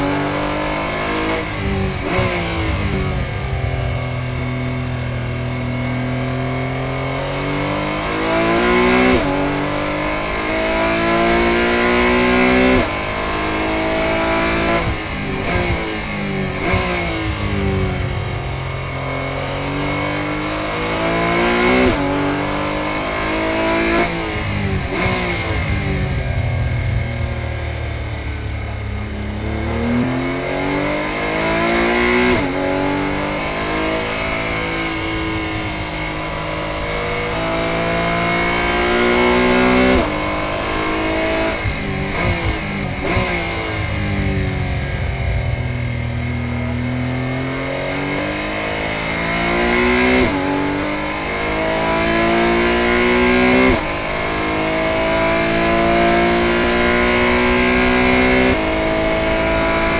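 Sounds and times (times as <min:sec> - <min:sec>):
car engine accelerating at high revs: 0:00.0 - 0:59.9
constant high whine: 0:00.0 - 0:59.9.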